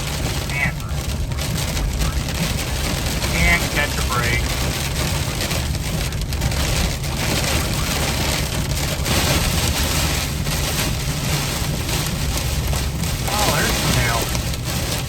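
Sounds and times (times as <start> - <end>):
rain and wind on a car: 0.0 - 15.0
road and engine rumble: 0.0 - 15.0.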